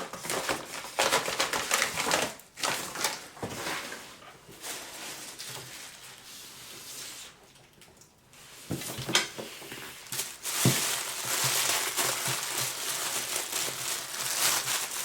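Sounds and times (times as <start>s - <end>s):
packaging rustling and crinkling: 0.0s - 6.2s, 8.6s - 15.0s.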